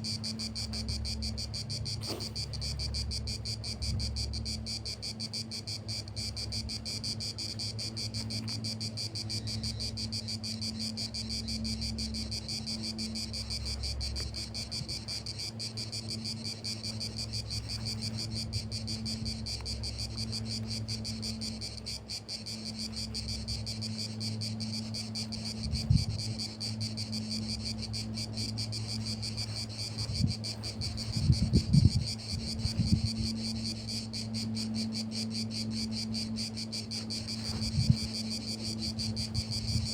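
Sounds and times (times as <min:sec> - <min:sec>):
insects chirping: 0:00.0 - 0:39.9
low steady hum: 0:00.0 - 0:39.9.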